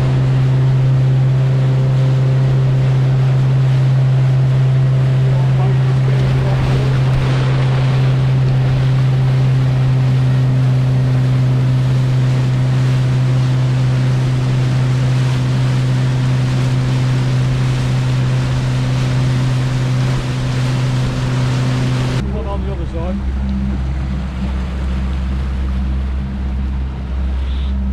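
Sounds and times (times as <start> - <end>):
motorboat engine humming: 0.0 - 27.9
water rushing along hull: 0.0 - 27.9.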